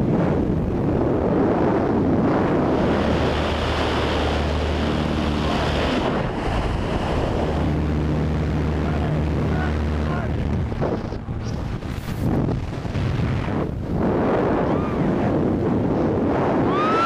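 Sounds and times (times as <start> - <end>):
low drone: 0.0 - 17.0
wind roaring over microphone: 0.0 - 17.0.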